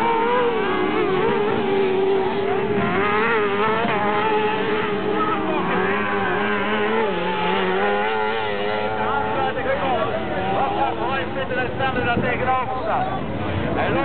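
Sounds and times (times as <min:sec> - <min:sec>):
kart engines racing: 0:00.0 - 0:14.0.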